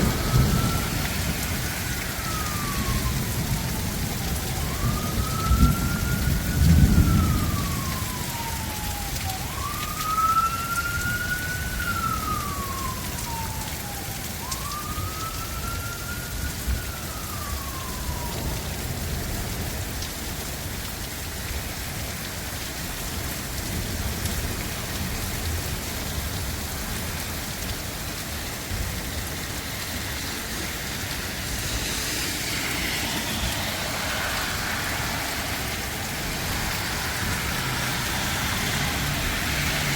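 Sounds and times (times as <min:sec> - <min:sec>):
distant siren wailing: 0:00.0 - 0:19.8, 0:26.0 - 0:39.9
heavy rain falling: 0:00.0 - 0:39.9.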